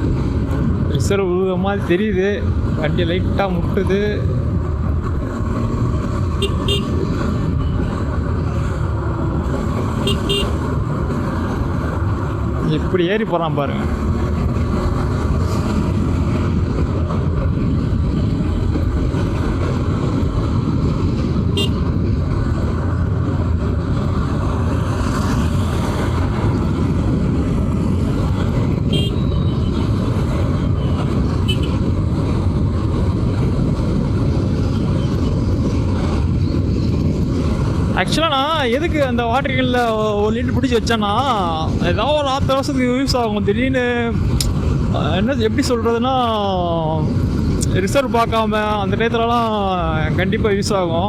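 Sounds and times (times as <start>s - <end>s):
wind rush on microphone: 0.0s - 51.0s.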